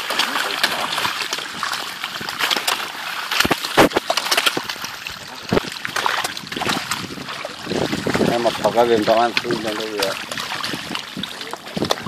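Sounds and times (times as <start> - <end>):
fish thrashing and splashing water: 0.0 - 12.0.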